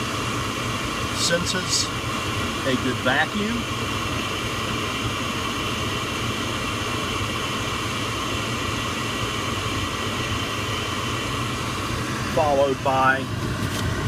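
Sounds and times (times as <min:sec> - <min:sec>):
furnace blower motor humming: 0:00.0 - 0:14.0.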